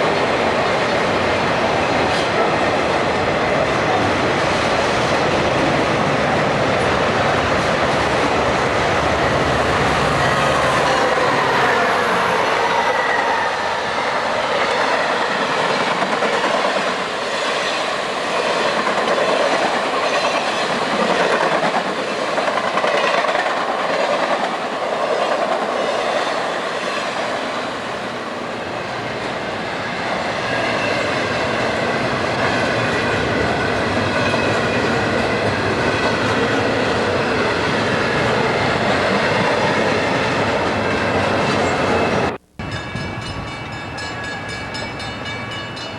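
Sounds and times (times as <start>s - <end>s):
train wheels running over rails: 0.0s - 12.9s, 13.8s - 45.9s.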